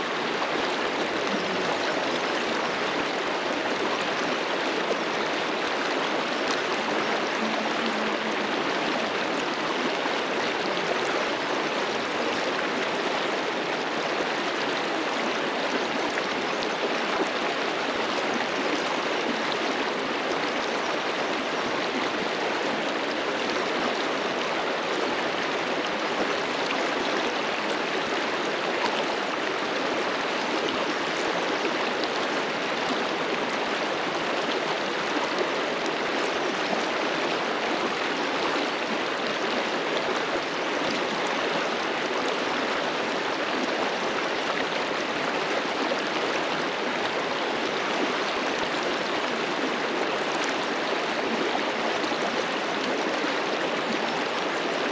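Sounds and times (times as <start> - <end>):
river water rushing over rocks: 0.0 - 54.9.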